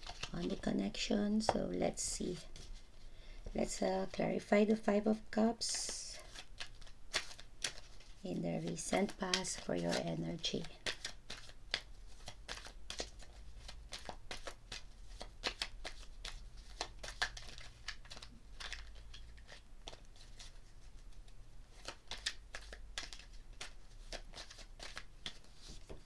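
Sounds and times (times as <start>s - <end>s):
cards being shuffled: 0.0s - 2.9s, 5.7s - 26.0s.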